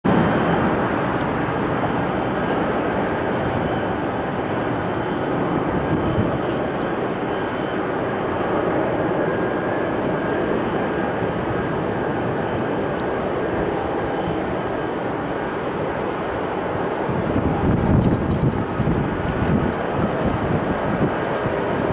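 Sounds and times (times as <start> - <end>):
distant jet engine rumble: 0.1 - 21.9
faint high engine whine: 0.1 - 21.9.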